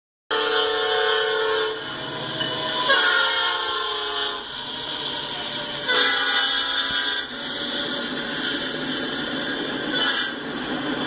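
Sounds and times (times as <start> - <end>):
locomotive air horn blasts: 0.3 - 9.2, 9.9 - 10.5
diesel locomotive passing: 0.3 - 11.0.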